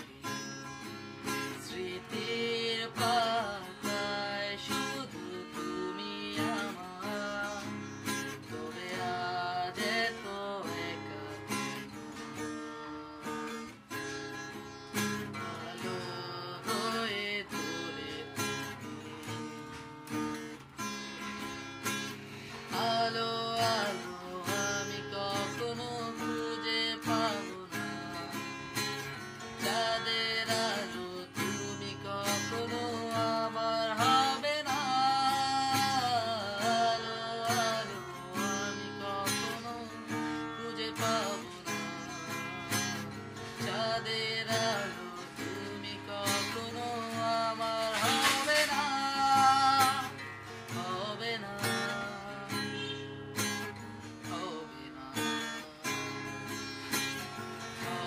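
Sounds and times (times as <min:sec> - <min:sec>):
man singing: 0:00.0 - 0:20.6, 0:21.2 - 0:58.0
acoustic guitar strumming: 0:00.0 - 0:58.0.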